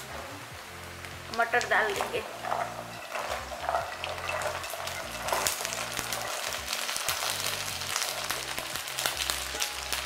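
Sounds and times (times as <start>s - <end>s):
peas sizzling in hot oil: 0.0s - 10.0s.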